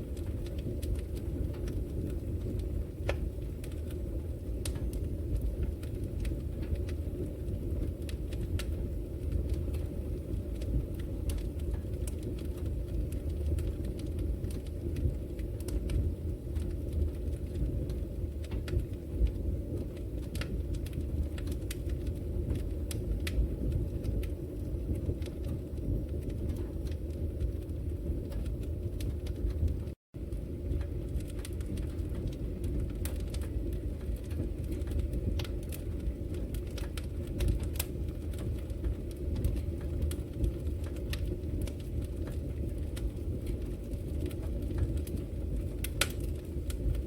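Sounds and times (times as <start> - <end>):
fire crackles and pops: 0.0 - 47.0
fire roaring in fireplace: 0.0 - 47.0.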